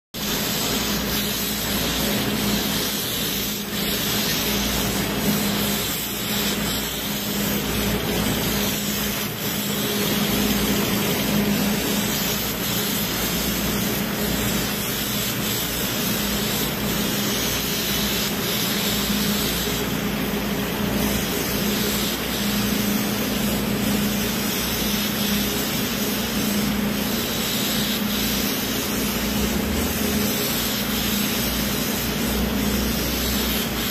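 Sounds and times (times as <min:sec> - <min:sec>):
paint spray gun hissing: 0:00.2 - 0:33.9.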